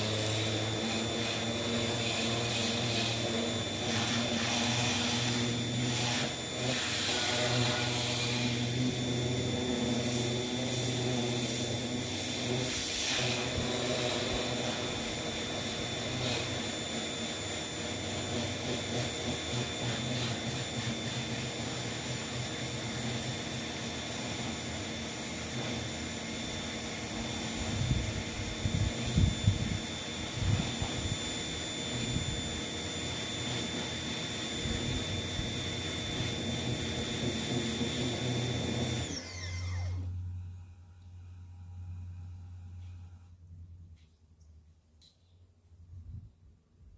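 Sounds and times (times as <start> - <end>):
pressure cleaner motor drone: 0.0 - 43.0.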